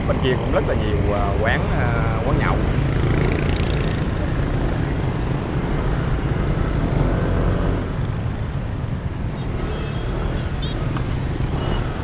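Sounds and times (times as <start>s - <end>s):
low road rumble: 0.0s - 12.0s
motorbike and car engines: 0.0s - 12.0s.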